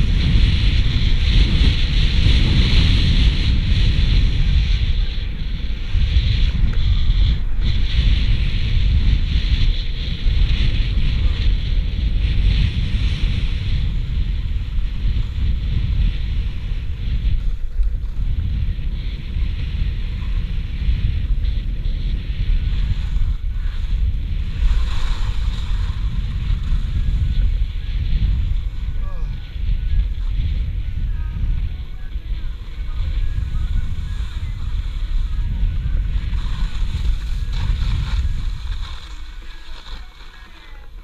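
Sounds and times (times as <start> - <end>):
skis sliding on packed snow: 0.0 - 29.0, 31.7 - 41.0
wind rumbling on microphone: 0.0 - 41.0.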